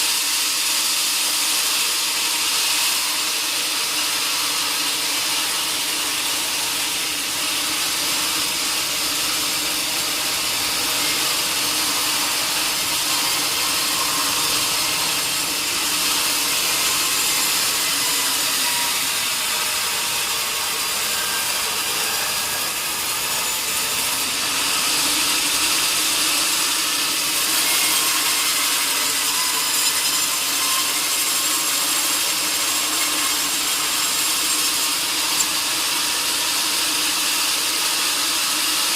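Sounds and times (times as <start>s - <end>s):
saw cutting through log: 0.0s - 38.9s.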